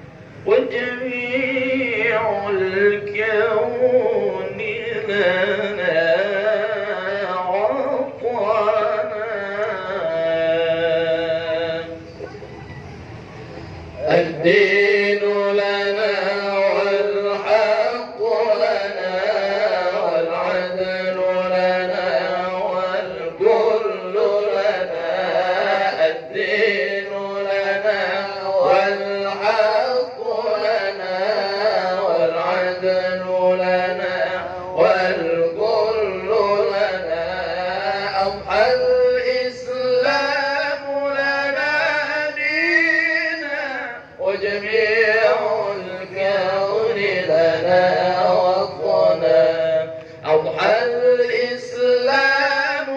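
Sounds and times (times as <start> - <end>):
man reciting melodically into microphone: 0.0 - 12.2, 13.9 - 52.9.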